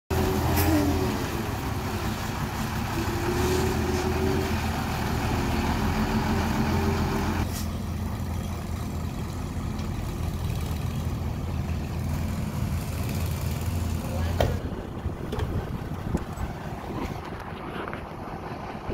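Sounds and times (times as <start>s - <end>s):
diesel truck engine running: 0.1s - 18.9s.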